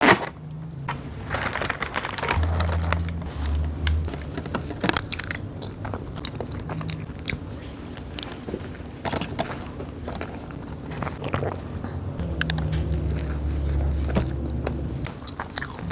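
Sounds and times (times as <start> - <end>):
chewing crunchy food: 0.0 - 15.9
low hum: 0.3 - 15.9.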